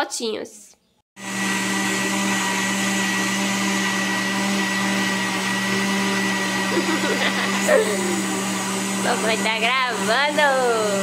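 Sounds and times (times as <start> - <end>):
blender running: 1.2 - 11.0.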